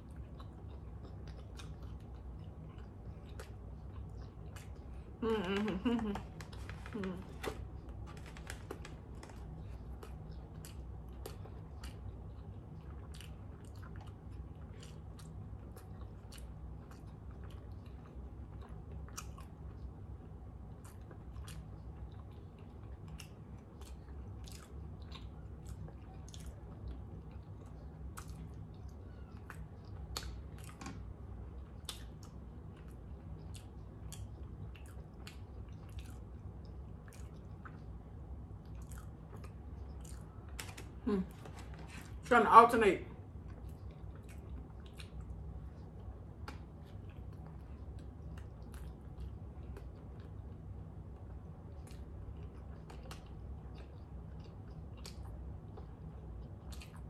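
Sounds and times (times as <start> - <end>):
person chewing a hot dog: 0.0 - 42.2, 43.2 - 57.0
steady low hum: 0.0 - 57.0.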